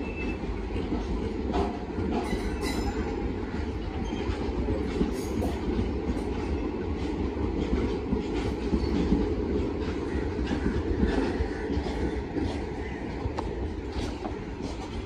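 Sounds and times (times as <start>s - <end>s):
train wheels rumbling on track: 0.0s - 15.0s
wheels clicking over rail joints: 0.1s - 15.0s.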